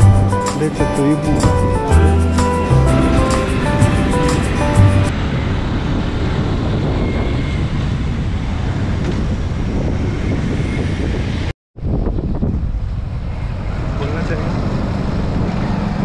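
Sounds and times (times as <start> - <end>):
road noise: 0.0 - 16.0
wind rushing over microphone: 0.8 - 16.0.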